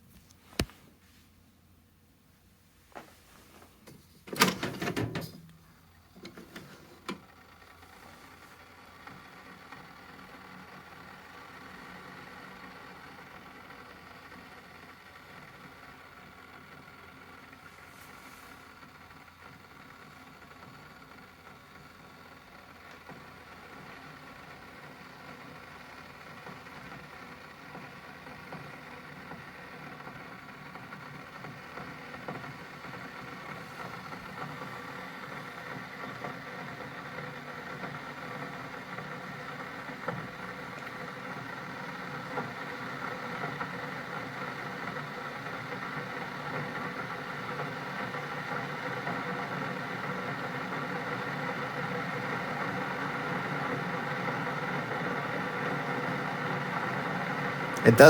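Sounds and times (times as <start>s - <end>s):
coffee maker humming and hissing: 3.1s - 58.0s.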